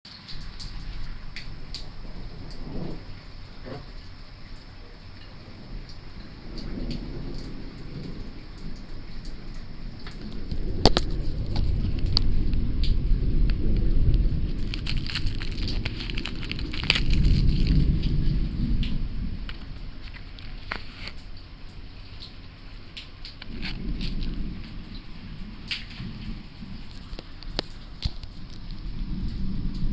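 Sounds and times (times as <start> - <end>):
rain patter: 0.0 - 29.9
thunder crack: 0.2 - 21.3, 23.3 - 29.9
rolling thunder rumble: 0.2 - 29.9.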